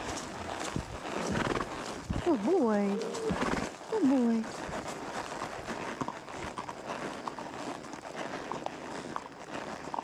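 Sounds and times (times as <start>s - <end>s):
horse hoofbeats: 0.0s - 10.0s.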